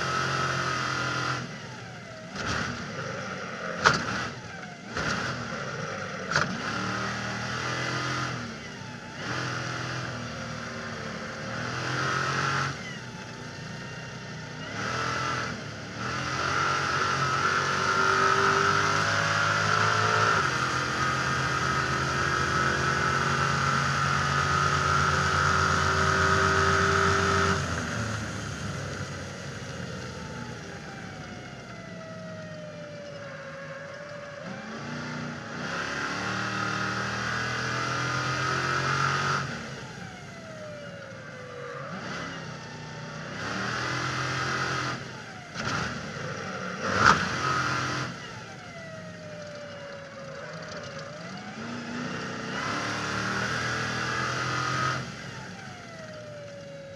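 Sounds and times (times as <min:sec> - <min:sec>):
race truck engine revving: 0:00.0 - 0:31.4, 0:34.4 - 0:40.8, 0:41.5 - 0:48.7, 0:50.6 - 0:56.0.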